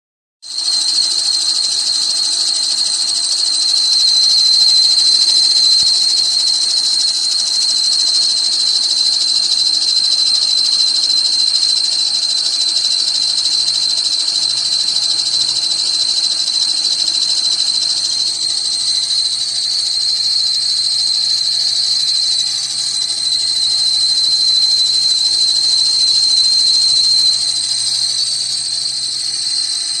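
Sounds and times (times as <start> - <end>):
belt pulley whistling squeal: 0.4 - 30.0.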